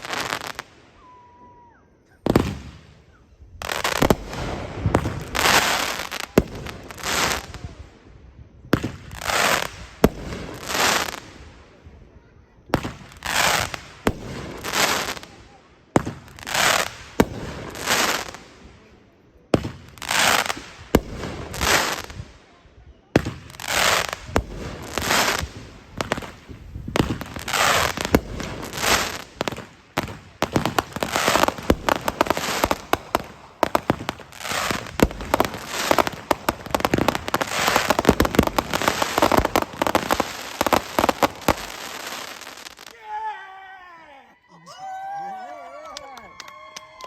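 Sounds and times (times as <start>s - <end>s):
firework crackling: 0.0s - 1.2s, 2.2s - 8.0s, 8.7s - 11.8s, 12.8s - 18.9s, 19.6s - 22.5s, 23.2s - 43.0s.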